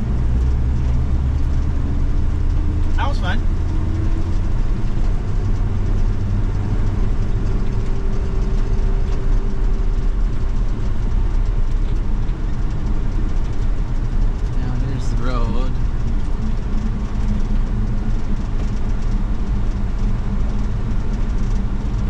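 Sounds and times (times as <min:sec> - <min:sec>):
pickup engine and road rumble: 0:00.0 - 0:22.0.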